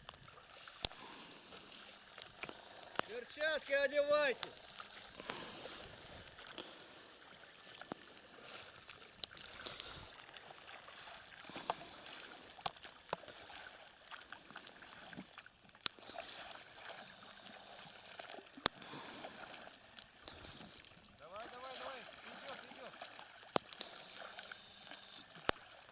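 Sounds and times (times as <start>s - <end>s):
oars splashing in water: 0.0s - 25.9s.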